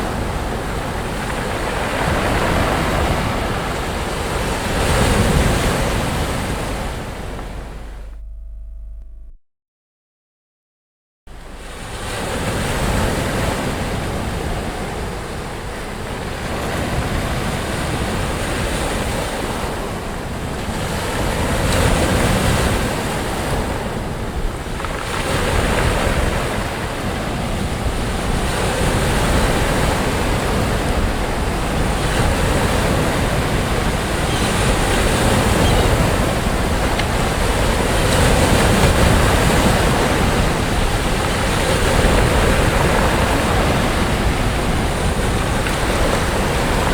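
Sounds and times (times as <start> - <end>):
sea waves breaking on beach: 0.0 - 8.0, 11.3 - 46.9.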